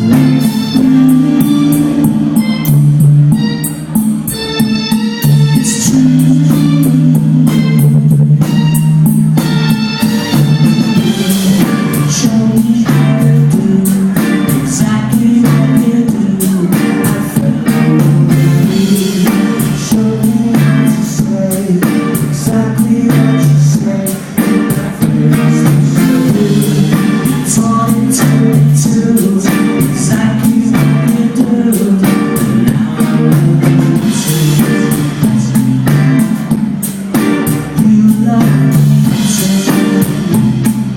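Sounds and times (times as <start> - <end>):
bass line: 0.0 - 40.9
drum kit with cymbals: 0.0 - 40.9
electric guitars: 0.0 - 40.9
person singing: 0.0 - 40.9.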